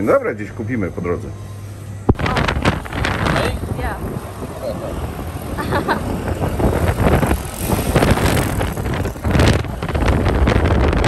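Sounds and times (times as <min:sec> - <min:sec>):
motorbike engine rumble: 0:00.0 - 0:11.0
wind buffeting microphone: 0:02.0 - 0:11.0.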